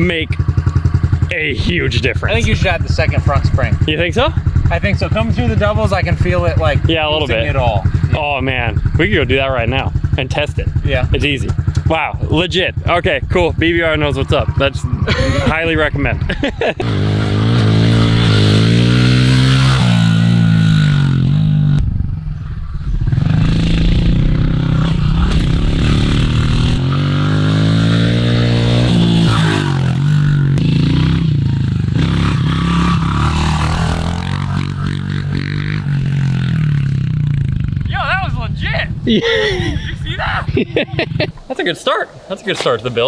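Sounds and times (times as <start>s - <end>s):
motorbike engine revving: 0.0s - 41.5s.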